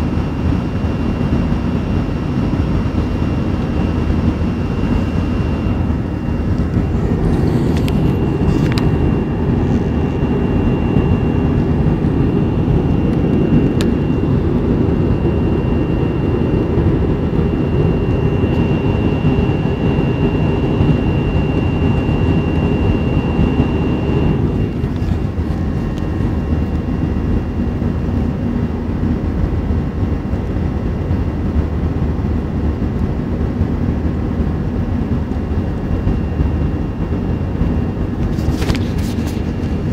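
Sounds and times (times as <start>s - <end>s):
thin high whine: 0.0s - 29.3s, 34.1s - 39.9s
jet engine and airflow rush: 0.0s - 39.9s.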